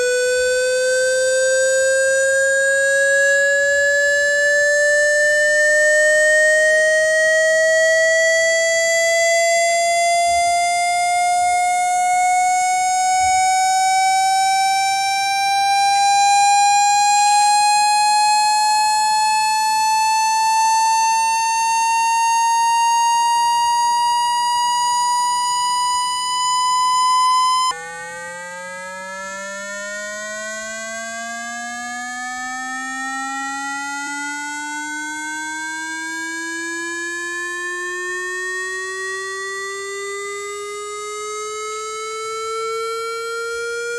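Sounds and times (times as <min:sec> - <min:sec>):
buzzy electronic tone rising in pitch: 0:00.0 - 0:39.2.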